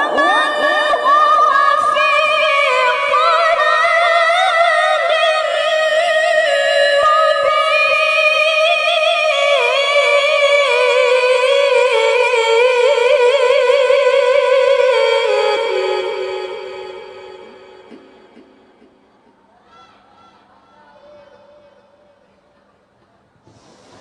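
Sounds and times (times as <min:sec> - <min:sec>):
woman chanting melodically: 0:00.0 - 0:22.8.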